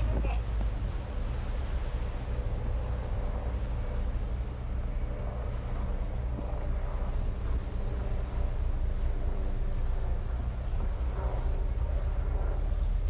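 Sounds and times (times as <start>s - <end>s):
ferry engine droning: 0.0s - 13.0s
wind buffeting microphone: 0.0s - 13.0s.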